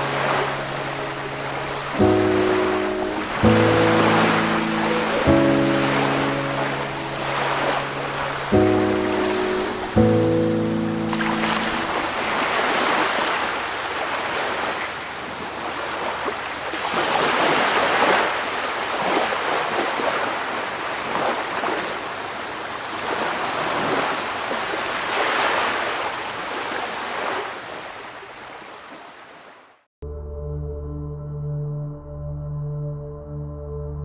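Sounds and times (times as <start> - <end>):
ocean waves breaking: 0.0 - 29.8.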